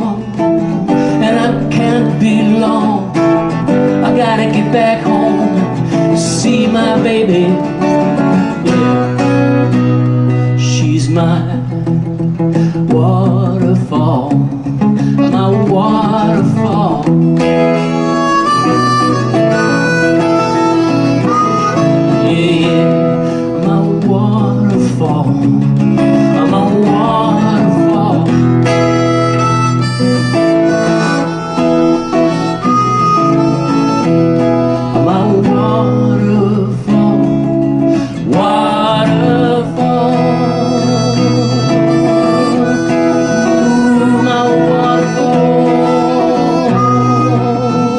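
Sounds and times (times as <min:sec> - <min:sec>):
guitar accompaniment: 0:00.0 - 0:47.9
harmonica melody: 0:00.6 - 0:10.6, 0:16.1 - 0:23.6, 0:25.8 - 0:47.9.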